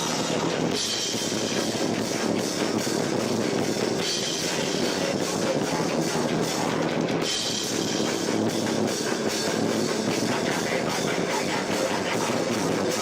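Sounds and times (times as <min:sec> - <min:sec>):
live rock band playing loudly: 0:00.0 - 0:13.0.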